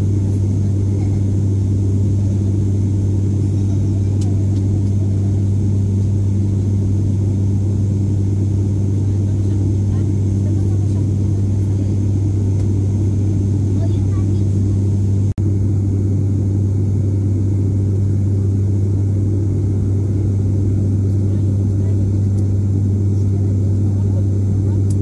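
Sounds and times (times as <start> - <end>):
propeller plane cabin drone: 0.0 - 25.0.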